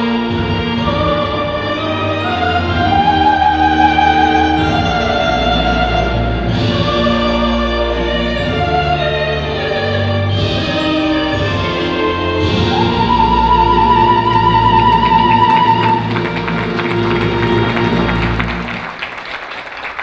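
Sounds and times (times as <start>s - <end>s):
orchestral anthem with singing: 0.0s - 19.1s.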